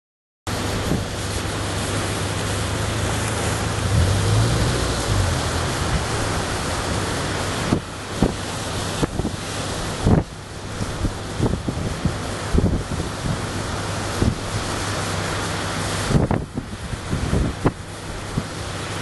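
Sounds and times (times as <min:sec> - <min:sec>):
breaking waves roar: 0:00.5 - 0:19.0
wind buffeting microphone: 0:00.7 - 0:19.0.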